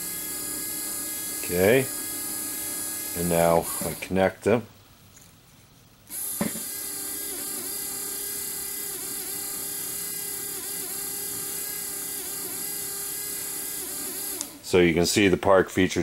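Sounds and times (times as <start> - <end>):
wiper motor electric whine: 0.0 - 4.3, 6.1 - 14.9.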